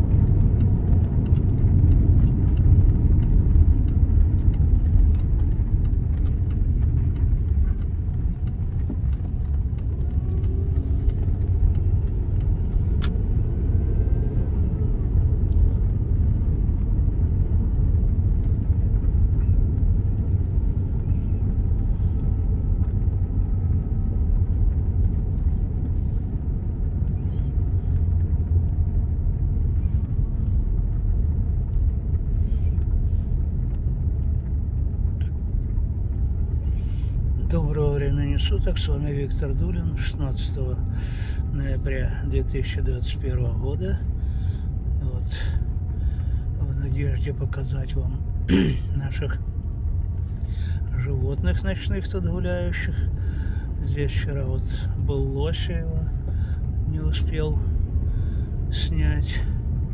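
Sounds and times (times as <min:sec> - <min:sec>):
car engine rumble: 0:00.0 - 0:59.9
road noise: 0:00.0 - 0:59.9.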